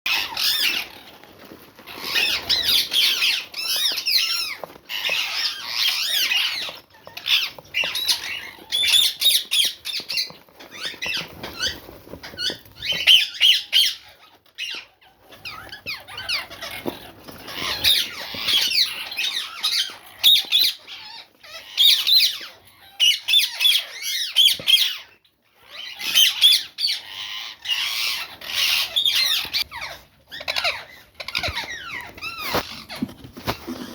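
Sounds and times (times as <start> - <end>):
small birds chirping and squawking: 0.0 - 33.9.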